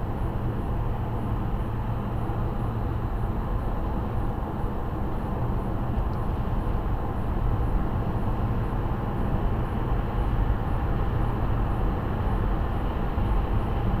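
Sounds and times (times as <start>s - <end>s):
car road rumble inside cabin: 0.0s - 14.0s.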